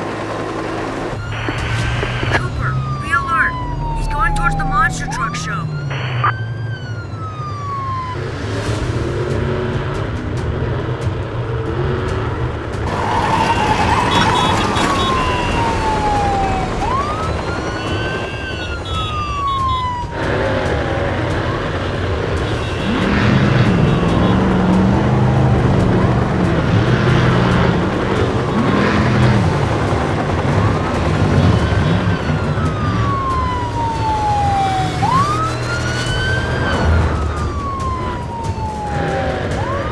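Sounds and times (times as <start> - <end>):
police siren wailing: 0.0 - 9.5, 12.8 - 39.9
vehicle engines running: 0.0 - 39.9.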